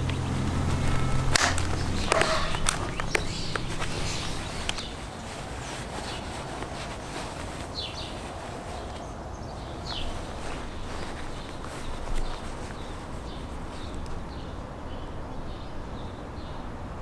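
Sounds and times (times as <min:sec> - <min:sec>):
handling noise: 0:00.0 - 0:14.3
steady hiss: 0:00.0 - 0:14.3
rustling: 0:00.0 - 0:14.5.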